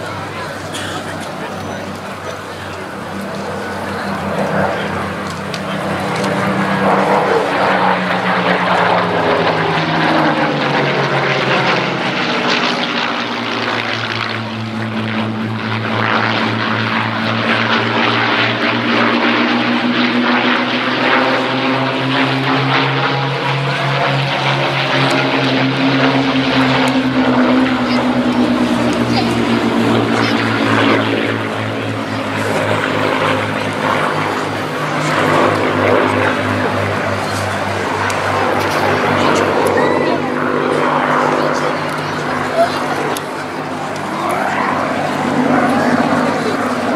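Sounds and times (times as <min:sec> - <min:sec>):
propeller plane engines flying past: 0:00.0 - 0:46.9.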